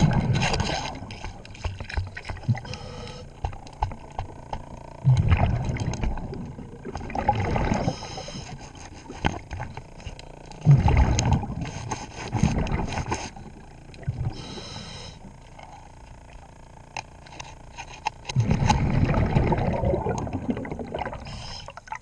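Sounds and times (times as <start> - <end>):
exhaled bubbles rumbling underwater: 0.0 - 16.9, 18.3 - 22.0.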